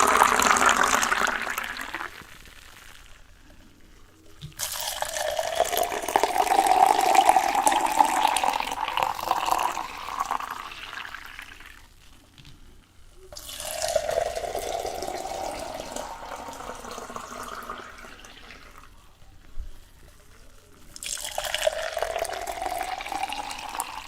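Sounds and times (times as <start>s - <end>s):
water pouring into a vessel: 0.0s - 3.4s, 4.4s - 12.0s, 13.3s - 19.3s, 20.6s - 24.0s.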